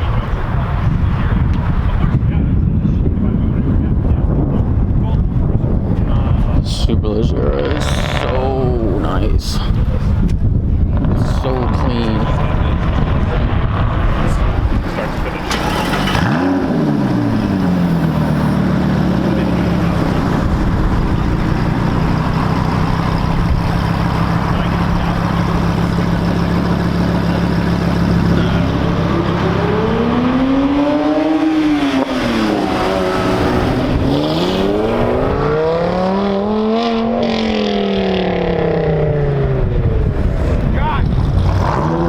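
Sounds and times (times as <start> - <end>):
car engine idling and revving: 7.4 - 42.0.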